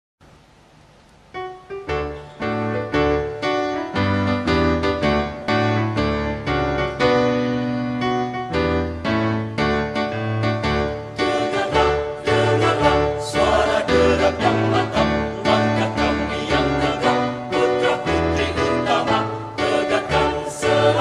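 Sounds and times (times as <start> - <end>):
march played on keyboard: 1.4 - 21.0.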